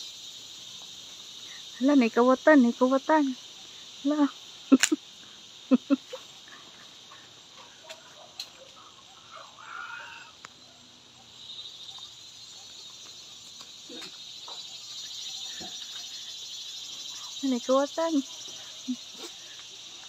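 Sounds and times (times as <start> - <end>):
crickets droning: 0.0 - 20.0
short loud insect calls: 0.0 - 20.0.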